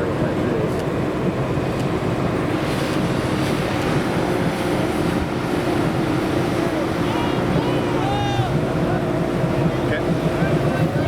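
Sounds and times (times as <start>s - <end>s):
motorboat engine running: 0.0s - 11.0s
water rushing past: 1.0s - 11.0s.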